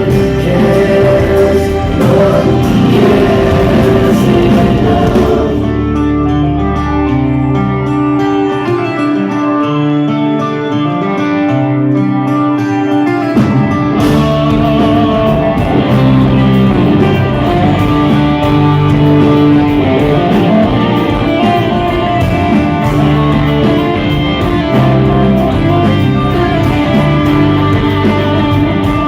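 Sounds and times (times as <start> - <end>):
instrumental rock music: 0.0 - 29.0.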